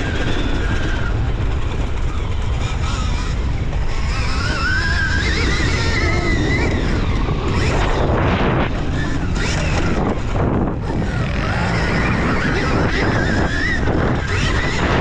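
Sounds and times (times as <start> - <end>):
electric dirt bike motor whining: 0.0 - 15.0
wind buffeting microphone: 0.0 - 15.0.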